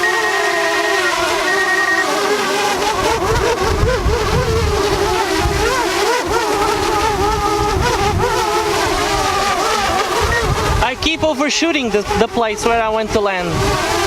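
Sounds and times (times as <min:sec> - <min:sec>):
drone propellers whining: 0:00.0 - 0:14.0
wind rumbling on microphone: 0:02.6 - 0:14.0.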